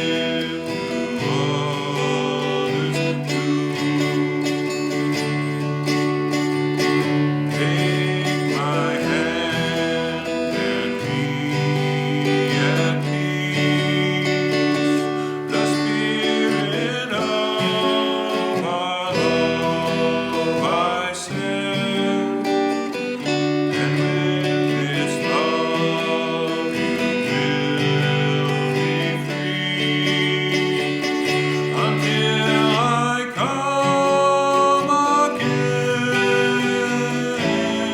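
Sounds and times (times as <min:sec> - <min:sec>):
acoustic guitar chords: 0:00.0 - 0:37.9.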